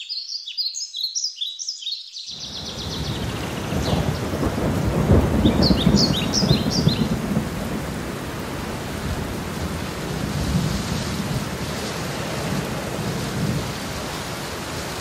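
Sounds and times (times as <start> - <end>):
steady rain: 2.4 - 15.0
thunder rumbling: 2.4 - 15.0.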